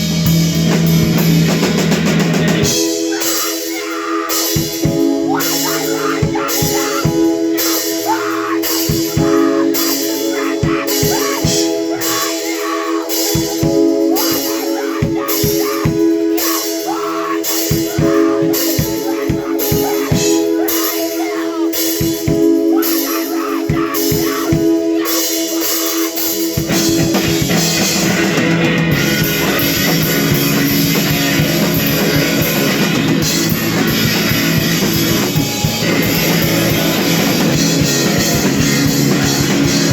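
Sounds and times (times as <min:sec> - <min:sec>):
drums steady beat: 0:00.0 - 0:39.9
live rock band playing: 0:00.0 - 0:39.9.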